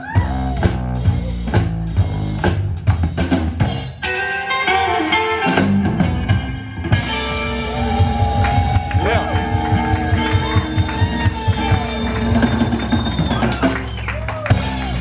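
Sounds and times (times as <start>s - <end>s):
drum kit: 0.0s - 15.0s
electric guitar: 0.0s - 15.0s
upright double bass: 0.2s - 3.8s, 5.6s - 15.0s.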